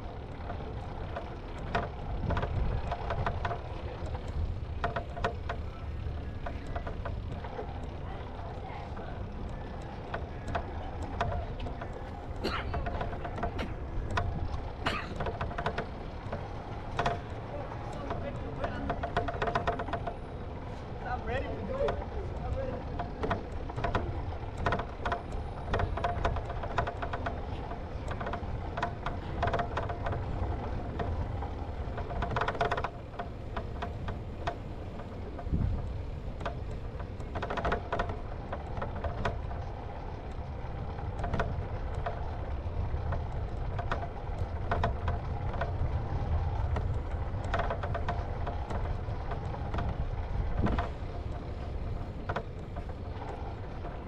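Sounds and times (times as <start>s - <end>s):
bicycle clicks and rattles: 0.0s - 54.0s
wind and rolling rumble: 0.0s - 54.0s.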